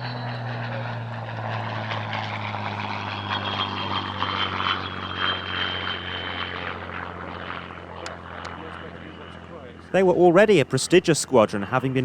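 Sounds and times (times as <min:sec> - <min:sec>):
aircraft engine droning with whine: 0:00.0 - 0:12.0.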